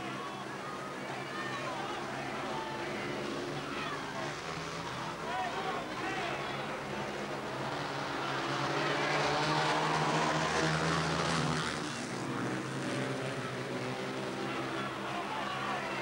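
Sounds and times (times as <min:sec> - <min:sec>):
motorcycle engines racing: 0:00.0 - 0:16.0.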